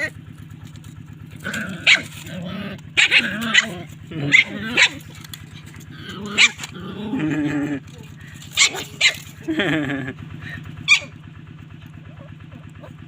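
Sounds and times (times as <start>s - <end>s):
dogs barking and growling: 0.0s - 13.0s
motor idling: 0.0s - 13.0s.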